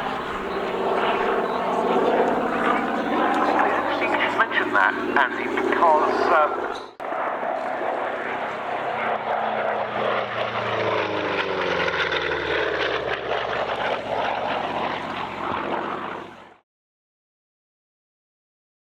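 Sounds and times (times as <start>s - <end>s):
propeller plane engine passing overhead: 0.0s - 16.6s.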